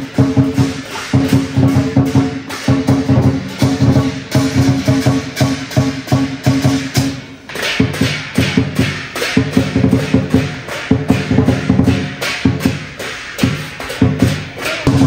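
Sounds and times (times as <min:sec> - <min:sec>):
hand cymbals clashing: 0:00.0 - 0:15.0
large drum beaten fast: 0:00.0 - 0:15.0.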